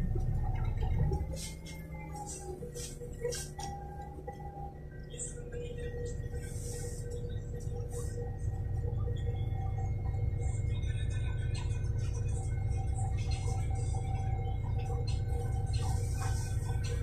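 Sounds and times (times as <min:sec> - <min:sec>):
bus engine idling hum: 0:00.0 - 0:17.0
faint steady tones: 0:00.0 - 0:17.0.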